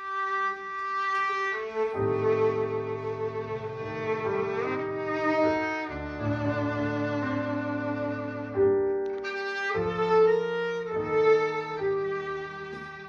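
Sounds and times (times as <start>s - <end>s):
lower accompaniment: 0.0s - 13.0s
violin slow melody: 0.0s - 13.0s.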